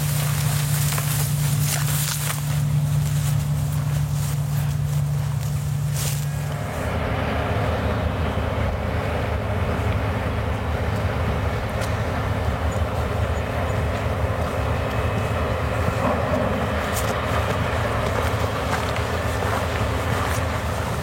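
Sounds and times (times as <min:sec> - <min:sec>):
vehicle running rumble: 0:00.0 - 0:21.0.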